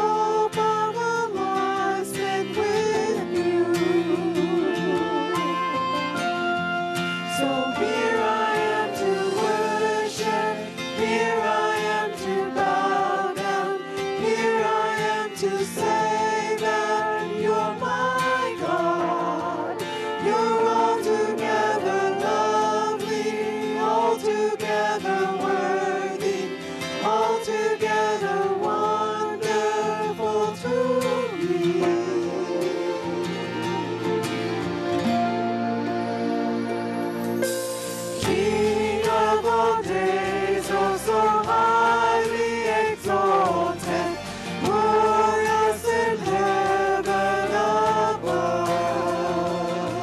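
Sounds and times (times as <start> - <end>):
group singing a worship song: 0.0 - 35.1, 35.7 - 50.0
instrumental accompaniment: 0.0 - 50.0.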